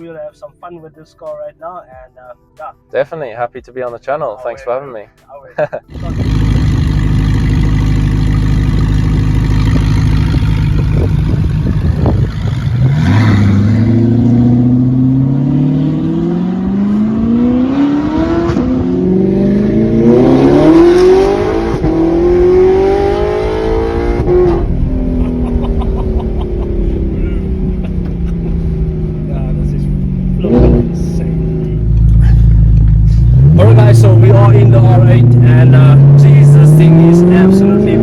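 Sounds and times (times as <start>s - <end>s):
sports car engine accelerating: 5.9s - 38.0s.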